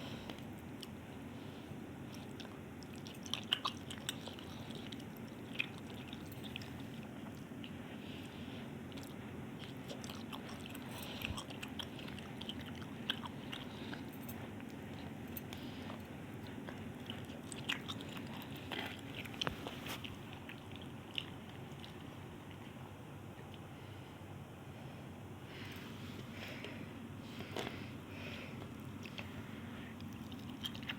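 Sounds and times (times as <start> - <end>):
low background hum: 0.0 - 30.9
person chewing noodles: 0.3 - 22.8, 26.2 - 30.9.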